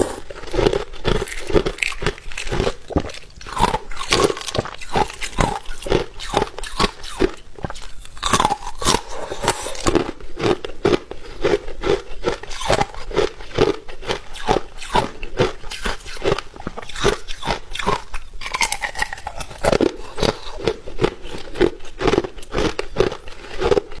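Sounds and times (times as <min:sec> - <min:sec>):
person crunching ice: 0:00.0 - 0:24.0.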